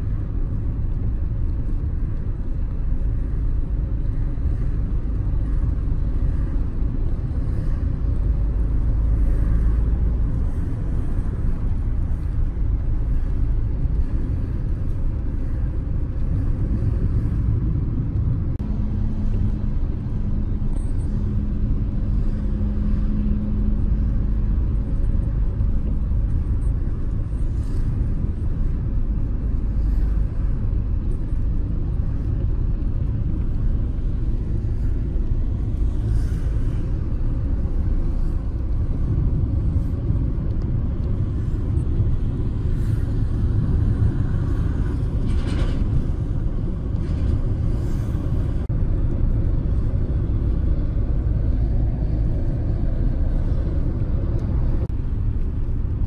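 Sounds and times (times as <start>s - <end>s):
faint steady hum: 0.0s - 56.0s
road and engine rumble: 0.0s - 56.0s.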